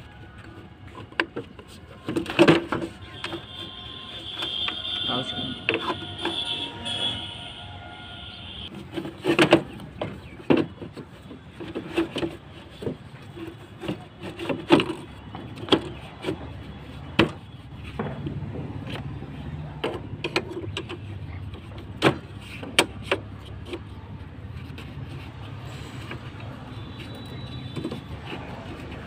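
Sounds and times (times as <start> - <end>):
plastic housing clicking and scraping: 0.0 - 6.5, 8.7 - 29.0.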